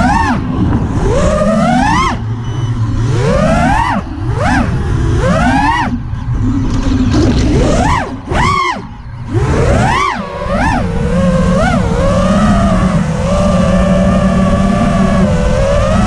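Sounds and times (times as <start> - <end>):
drone motors whining: 0.0 - 16.0
wind rumbling on microphone: 0.0 - 16.0.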